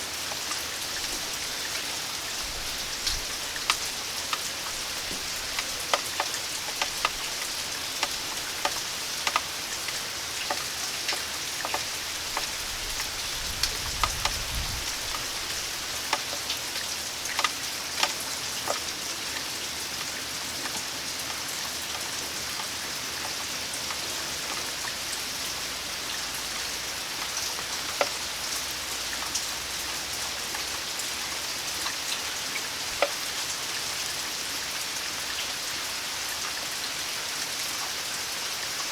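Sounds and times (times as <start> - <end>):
steady rain falling: 0.0 - 38.9
drips on hard surface: 0.2 - 34.2.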